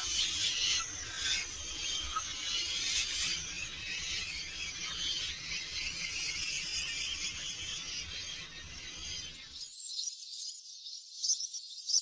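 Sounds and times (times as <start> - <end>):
insect chorus: 0.0 - 10.8.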